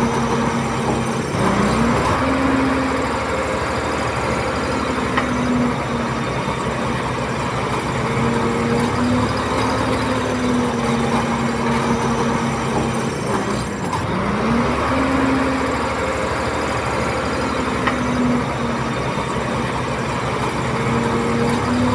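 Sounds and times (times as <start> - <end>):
heavy diesel engine running: 0.0 - 21.9.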